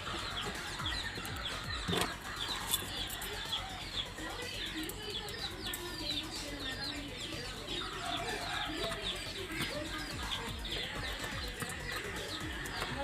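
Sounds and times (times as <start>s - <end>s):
birds chirping: 0.0s - 13.0s
chickens clucking: 0.0s - 13.0s.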